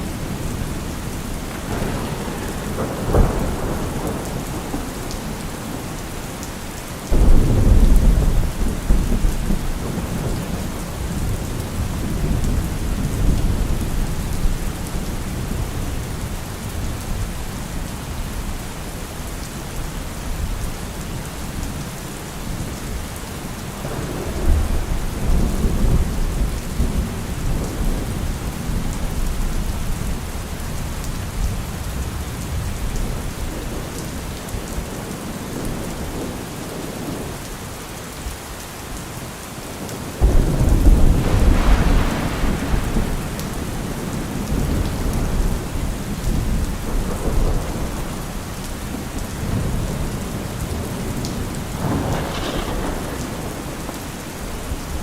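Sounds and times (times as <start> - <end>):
rolling thunder: 0.0 - 6.4, 7.0 - 17.4, 23.8 - 37.4, 40.2 - 55.0
heavy rain: 0.0 - 55.0.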